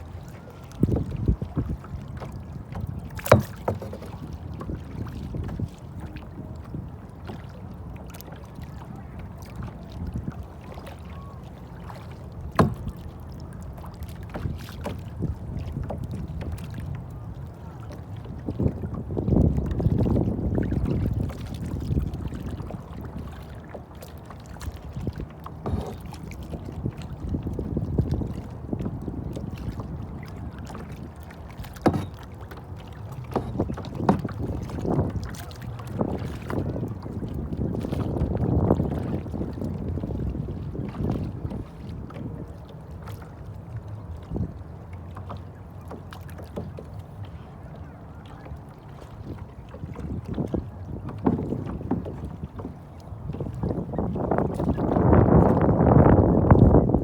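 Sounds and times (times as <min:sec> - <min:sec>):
paddle splashes and drips: 0:00.0 - 0:57.0.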